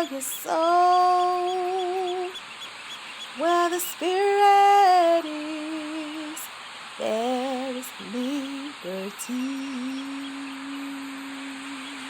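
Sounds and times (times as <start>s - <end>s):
woman singing wordless melody: 0.0s - 2.5s, 3.3s - 12.0s.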